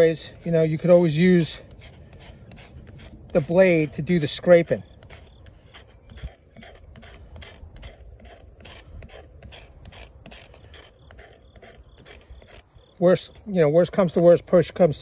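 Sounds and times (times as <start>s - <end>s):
knife blade scraping hard wood: 0.0s - 13.5s
crickets chirping: 0.0s - 15.0s.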